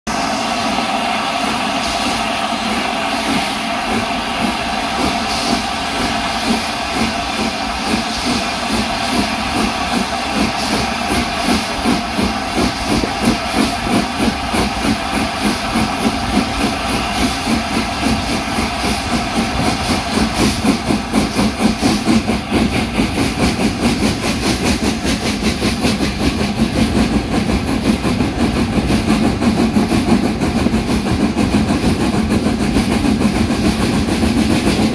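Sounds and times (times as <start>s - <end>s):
steam hissing: 0.1s - 34.9s
steam locomotive chuffing: 0.1s - 34.9s
wheels rumbling on rail: 0.1s - 34.9s.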